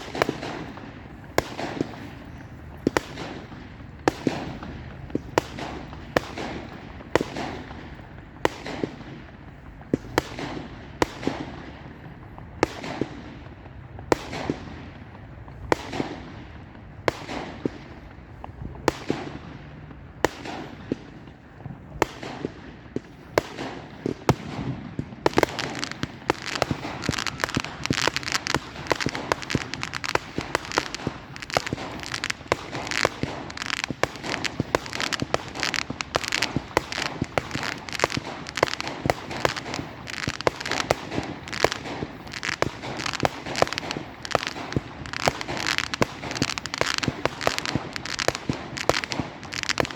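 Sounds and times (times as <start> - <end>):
fireworks bangs: 0.0 - 49.9
fireworks crackling barrage: 0.0 - 49.9.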